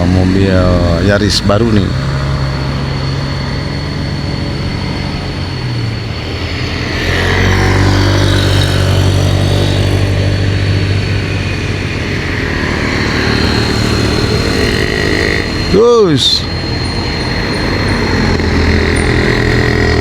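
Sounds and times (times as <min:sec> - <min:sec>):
road traffic: 0:00.0 - 0:20.0
vehicle passing close: 0:00.0 - 0:20.0.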